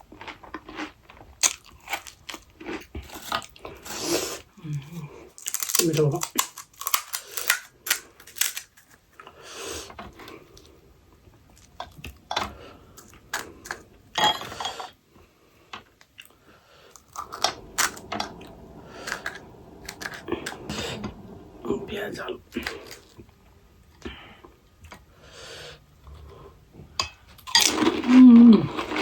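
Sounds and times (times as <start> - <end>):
crunching and chewing food: 0.0 - 14.2, 15.0 - 25.3, 26.0 - 29.0.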